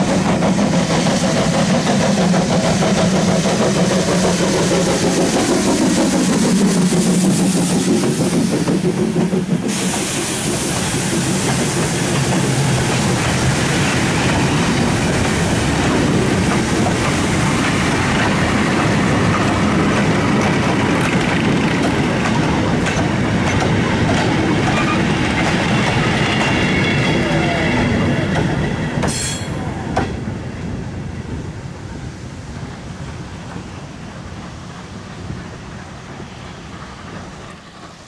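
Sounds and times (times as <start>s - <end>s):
steam hiss: 0.0s - 30.3s, 31.6s - 38.0s
steam locomotive passing: 0.0s - 38.0s.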